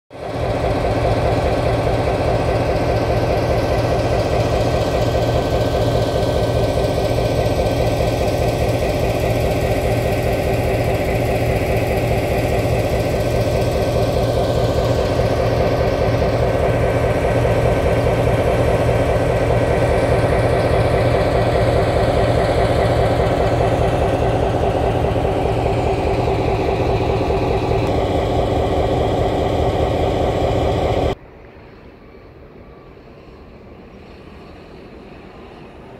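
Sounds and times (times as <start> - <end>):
diesel locomotive engine idling: 0.1 - 35.9.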